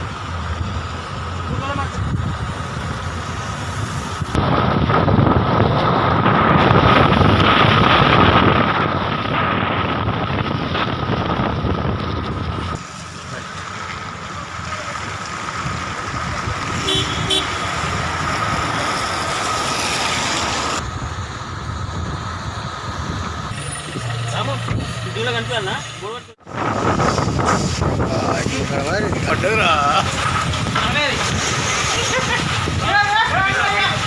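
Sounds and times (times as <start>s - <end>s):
wind buffeting microphone: 0.0s - 13.4s, 14.0s - 25.3s, 26.3s - 34.0s
road traffic: 0.0s - 34.0s.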